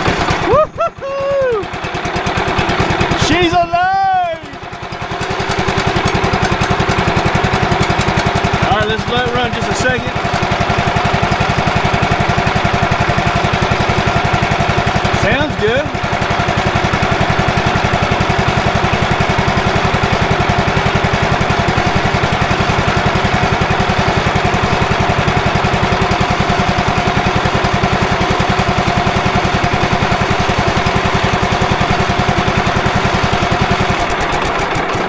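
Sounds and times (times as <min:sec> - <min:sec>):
gasoline engine idling: 0:00.0 - 0:35.0.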